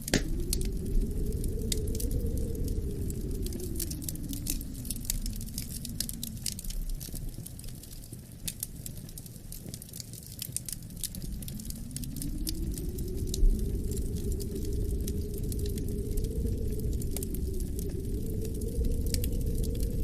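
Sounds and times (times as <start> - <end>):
low wind: 0.0 - 20.0
wood fire crackling: 0.0 - 20.0.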